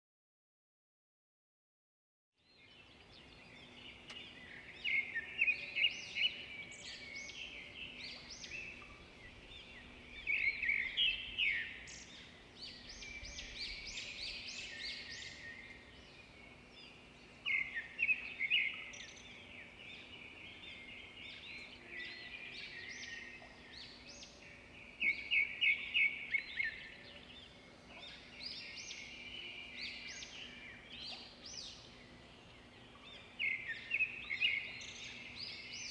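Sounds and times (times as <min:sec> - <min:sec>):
birds chirping: 0:02.5 - 0:35.9.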